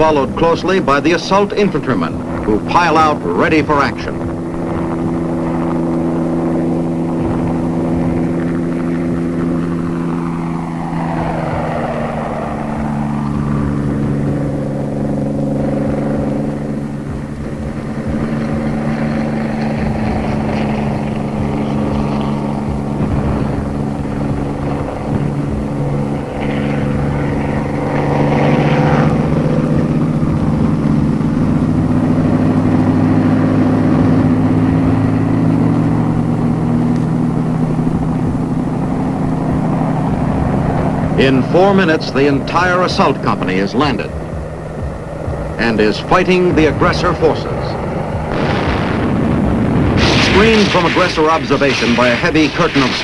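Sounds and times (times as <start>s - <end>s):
helicopter piston engine droning: 0.0s - 53.0s
helicopter rotor noise: 0.0s - 53.0s.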